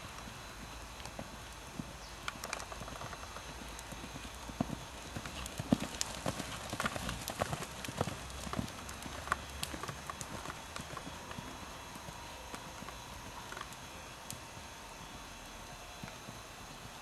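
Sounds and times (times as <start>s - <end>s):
horse hoofbeats on sand: 0.6s - 17.0s.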